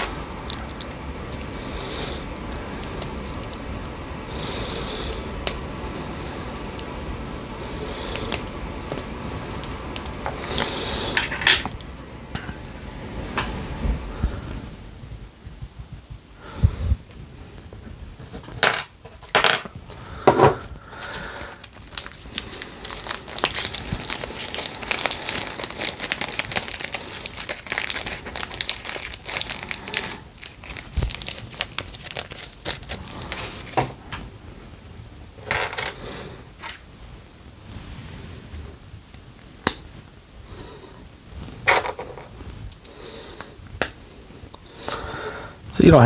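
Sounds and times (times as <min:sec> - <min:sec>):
crinkly scraping: 0:00.0 - 0:15.5, 0:17.2 - 0:40.0, 0:40.6 - 0:45.1.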